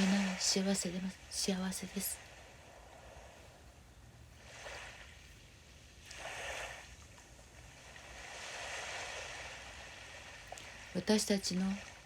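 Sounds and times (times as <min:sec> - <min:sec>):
small waves washing ashore: 0:00.0 - 0:12.0.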